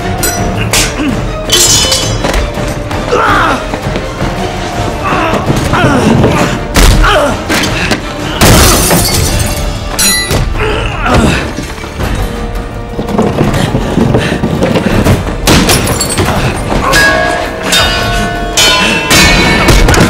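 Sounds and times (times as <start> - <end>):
film score music: 0.0 - 20.0.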